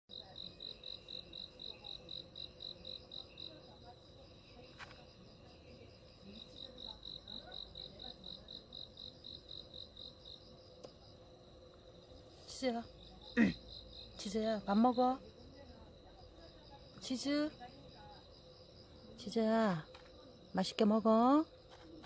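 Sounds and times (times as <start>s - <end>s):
cricket chirping: 0.1s - 22.0s.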